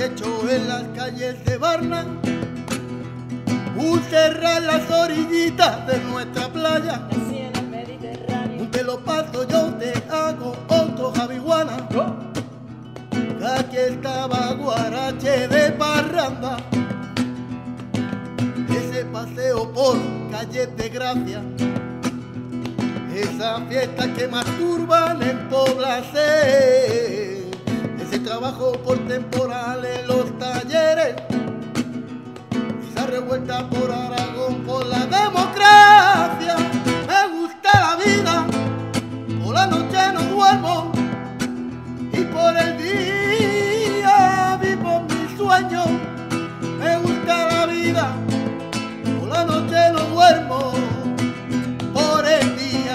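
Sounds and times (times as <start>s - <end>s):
man singing: 0.0s - 52.9s
strummed acoustic guitar: 0.0s - 52.9s.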